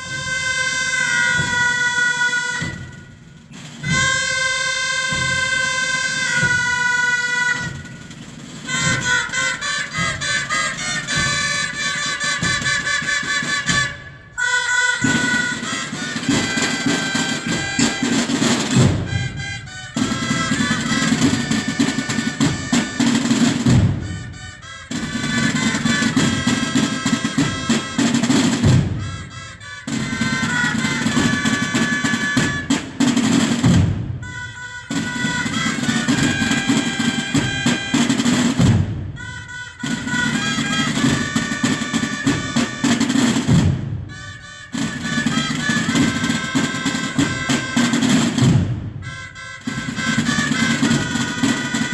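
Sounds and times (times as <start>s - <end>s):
brass melody: 0.0s - 51.9s
snare drum rolls: 0.0s - 51.9s.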